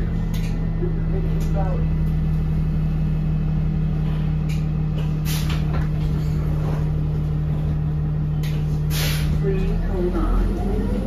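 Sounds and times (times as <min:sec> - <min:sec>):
bus machinery hum: 0:00.0 - 0:11.0.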